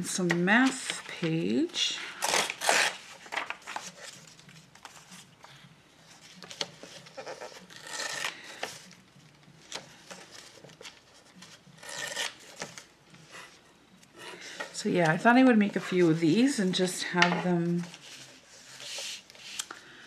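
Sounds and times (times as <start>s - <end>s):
paper rustling: 2.2s - 13.6s, 14.4s - 19.8s.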